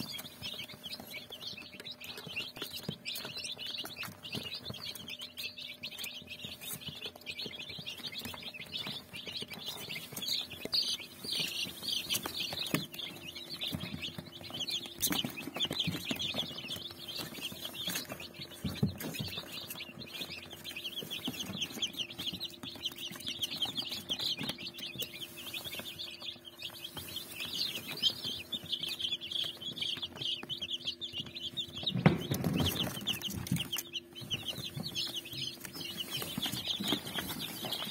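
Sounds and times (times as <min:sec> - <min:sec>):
baby chicks peeping: 0:00.0 - 0:37.9.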